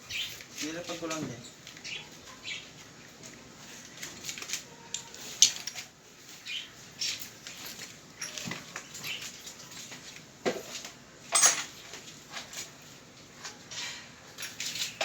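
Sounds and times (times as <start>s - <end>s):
rummaging through objects: 0.1s - 15.0s.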